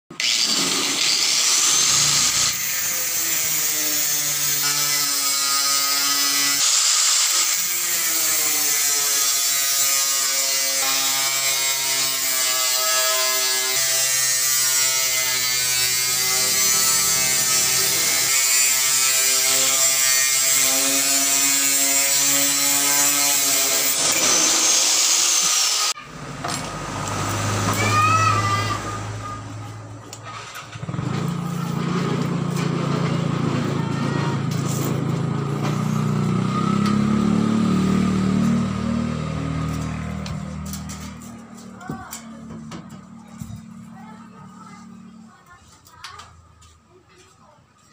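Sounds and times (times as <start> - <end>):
angle grinder cutting metal sheet: 0.1 - 42.9.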